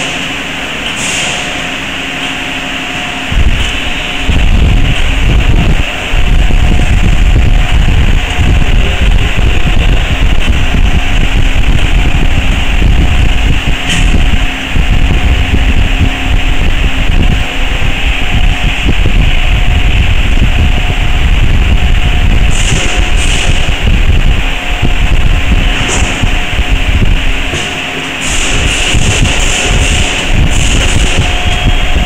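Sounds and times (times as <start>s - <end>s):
component insertion machine running: 0.0s - 32.0s
heavy low rumble: 0.0s - 32.0s.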